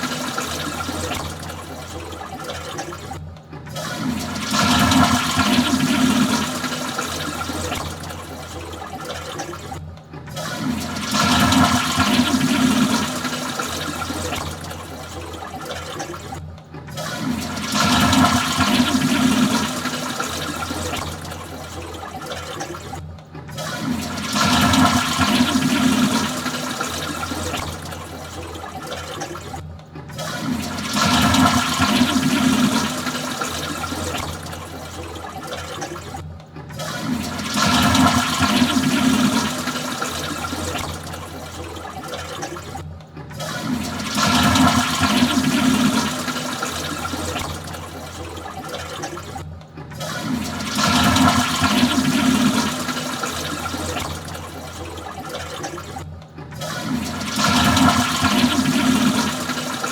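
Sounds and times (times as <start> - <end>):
toilet flushing: 0.0 - 59.9.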